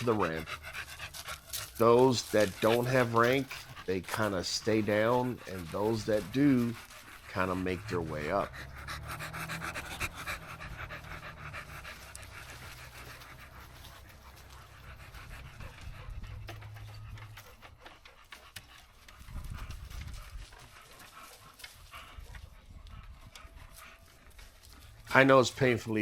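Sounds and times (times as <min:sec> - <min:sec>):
dog panting: 0:00.0 - 0:26.0.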